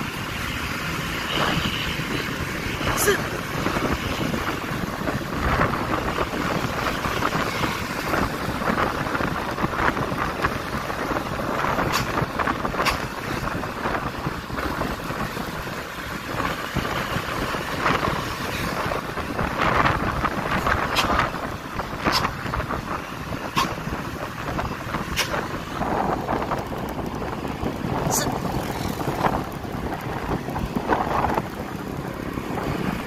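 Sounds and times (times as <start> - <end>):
road and traffic noise: 0.0 - 33.0
wind rush on microphone: 0.0 - 33.0.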